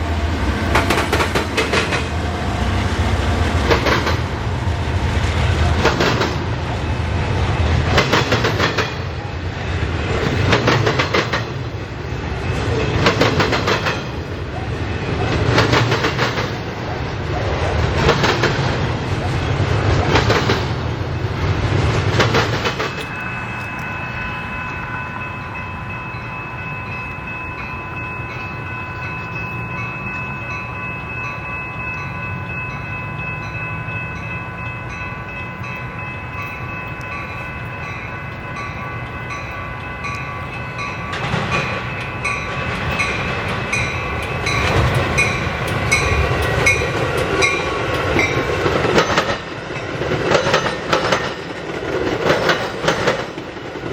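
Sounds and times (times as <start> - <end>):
train rail noise clicking: 0.0 - 53.9.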